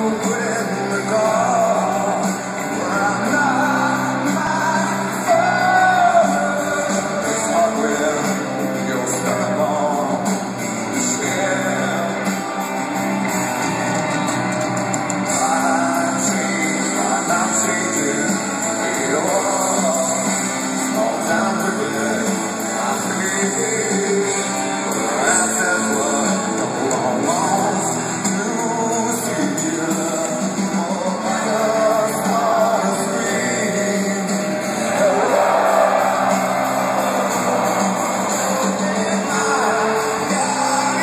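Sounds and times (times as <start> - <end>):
lead vocal singing: 0.0 - 41.0
live rock band playing: 0.0 - 41.0.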